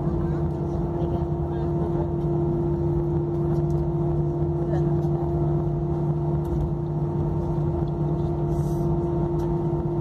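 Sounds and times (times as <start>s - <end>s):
aeroplane engines droning: 0.0s - 10.0s.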